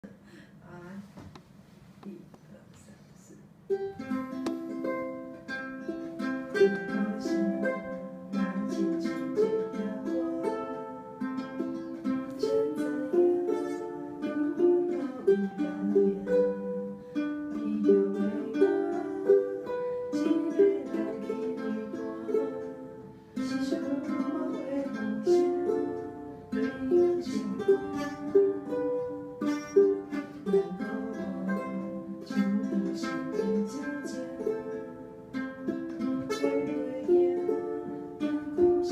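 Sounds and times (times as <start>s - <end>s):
ukuleles playing: 3.6s - 38.9s.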